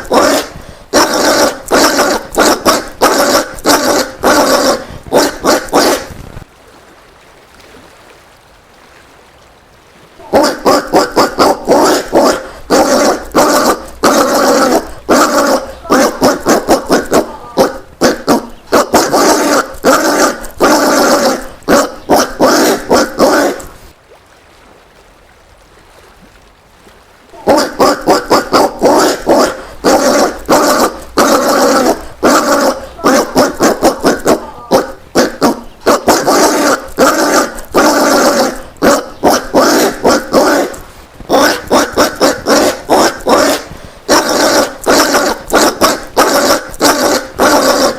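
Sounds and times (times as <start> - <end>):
peccary barking grunts: 0.0 - 6.1, 10.2 - 23.7, 27.4 - 47.9.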